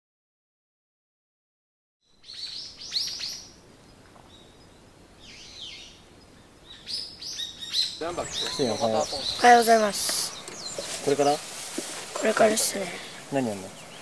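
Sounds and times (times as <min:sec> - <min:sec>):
birds chirping: 0:02.1 - 0:14.0
faint outdoor hush: 0:02.2 - 0:14.0.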